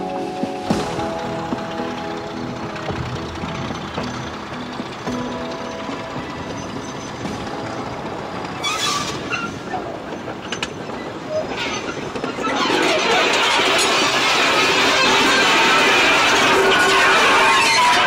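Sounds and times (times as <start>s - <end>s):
train wheels rolling on rail: 0.0s - 18.0s
wheel squeals: 0.0s - 18.0s
wheel clicks on track: 0.7s - 18.0s.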